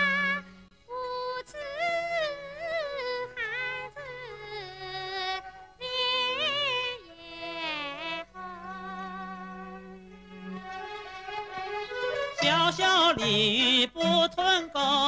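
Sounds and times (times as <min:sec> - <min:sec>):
woman singing in high voice: 0:00.0 - 0:09.9, 0:12.4 - 0:15.0.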